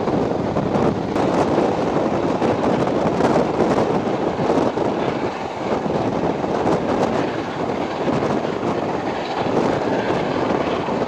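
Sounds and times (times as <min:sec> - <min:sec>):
rushing air: 0:00.0 - 0:11.0
train wheels on rails: 0:00.0 - 0:11.0.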